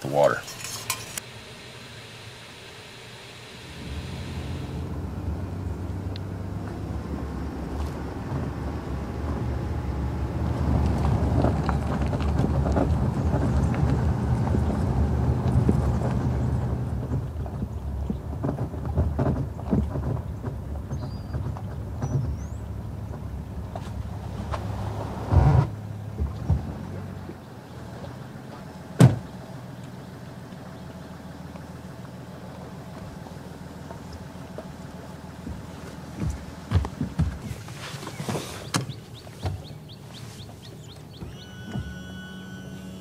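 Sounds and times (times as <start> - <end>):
road rumble: 0.0 - 43.0
wind: 0.0 - 43.0
boat rattling on trailer: 5.1 - 43.0.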